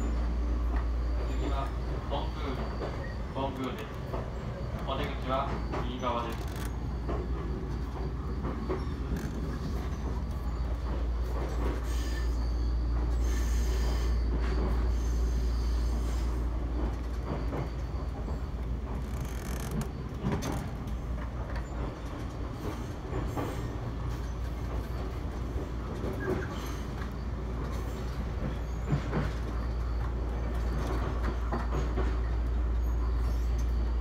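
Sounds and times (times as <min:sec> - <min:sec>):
train deep rumble: 0:00.0 - 0:34.0.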